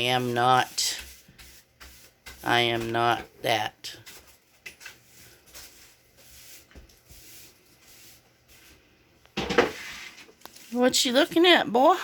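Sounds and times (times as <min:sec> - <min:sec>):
objects rustling and tapping: 0:00.9 - 0:11.6.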